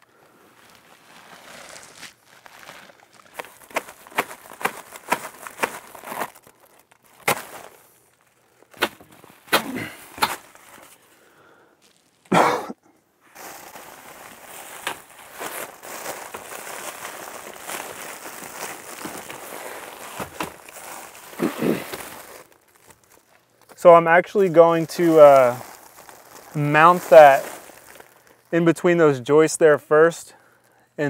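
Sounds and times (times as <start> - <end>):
foil duct rustling and crinkling: 0.0 - 12.3, 13.2 - 28.8.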